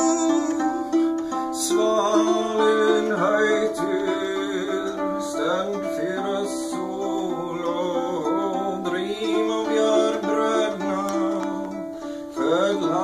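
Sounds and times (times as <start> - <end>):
lyre chords: 0.0 - 13.0
man singing: 0.0 - 13.0.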